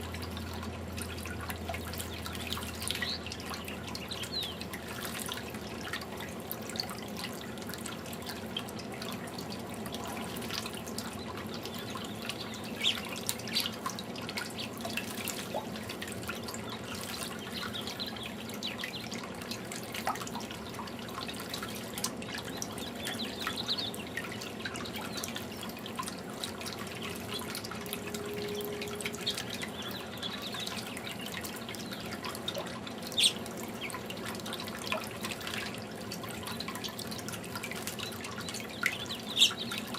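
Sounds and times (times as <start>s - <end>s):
fountain water trickling: 0.0s - 39.9s
water splashes: 0.0s - 39.9s.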